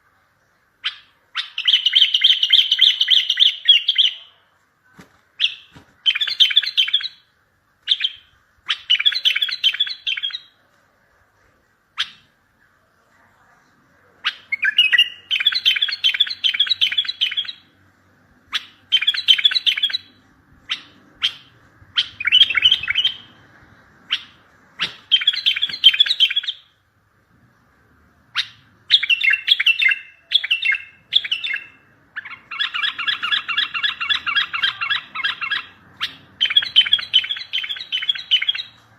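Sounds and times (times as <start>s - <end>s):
bird chirping song: 0.4s - 4.4s, 5.4s - 10.7s, 11.9s - 12.8s, 14.1s - 26.8s, 27.5s - 38.9s.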